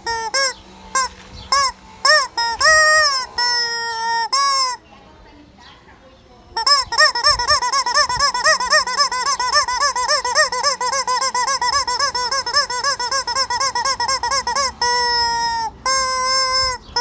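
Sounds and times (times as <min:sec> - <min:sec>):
rubber chicken toy squeaking: 0:00.0 - 0:04.8, 0:06.6 - 0:17.0.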